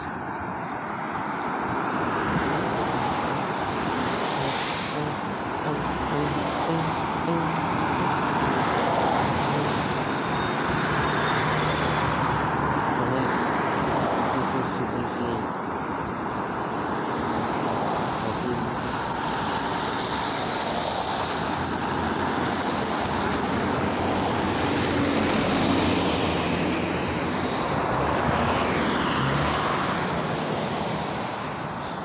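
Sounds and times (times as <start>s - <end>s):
bus driving past: 0.0s - 32.0s
traffic on a wet road: 0.0s - 32.0s.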